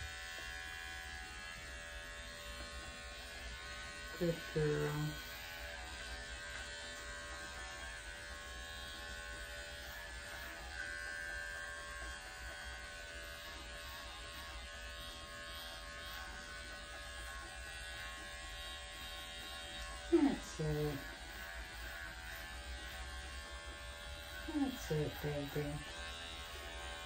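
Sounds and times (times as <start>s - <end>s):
electric dog clipper buzzing: 0.0s - 27.0s.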